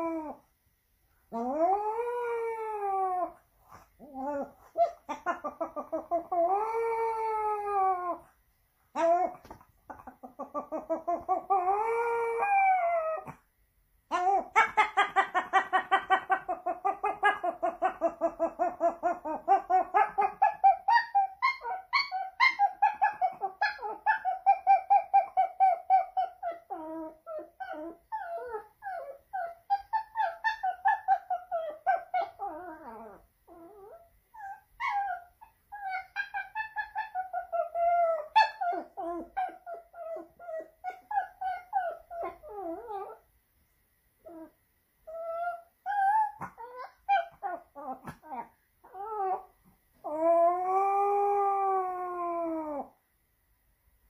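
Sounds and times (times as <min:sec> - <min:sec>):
dog howling and yelping: 0:00.0 - 0:00.5, 0:01.3 - 0:08.4, 0:09.0 - 0:13.4, 0:14.1 - 0:43.3, 0:44.2 - 0:53.0.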